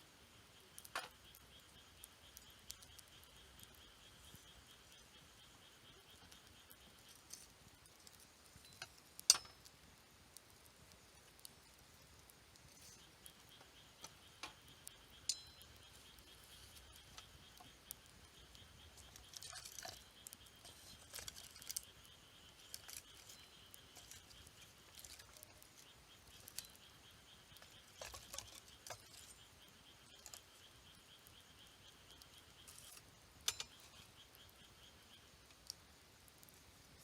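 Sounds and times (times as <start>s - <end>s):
campfire crackling and popping: 0.1s - 37.0s.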